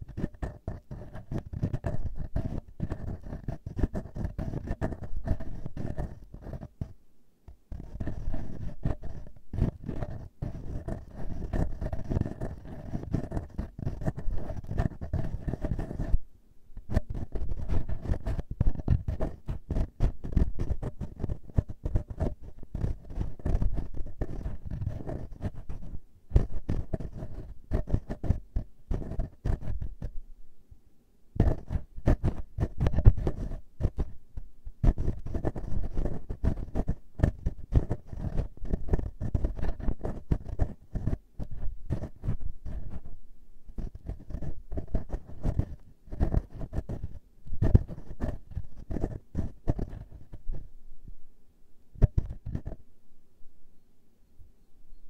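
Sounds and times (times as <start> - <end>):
fingers scratching microphone grille: 0.0 - 16.2, 16.8 - 30.2, 31.4 - 50.7, 52.0 - 52.8.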